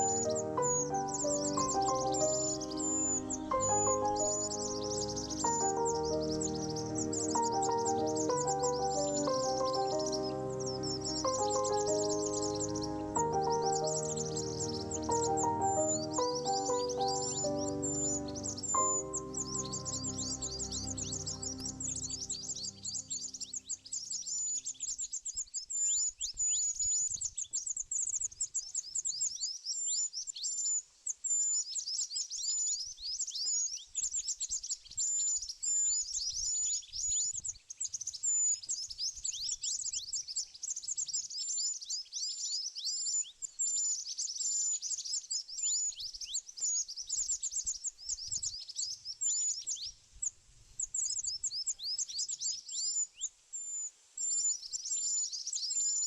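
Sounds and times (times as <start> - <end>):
small birds chirping rapidly: 0.0 - 50.0, 50.8 - 56.0.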